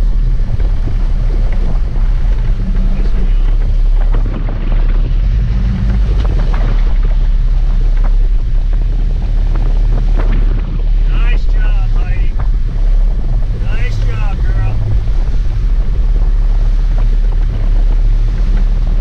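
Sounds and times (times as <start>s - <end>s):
boat engines running: 0.0s - 19.0s
water churning: 0.0s - 19.0s
wind buffeting microphone: 0.0s - 19.0s.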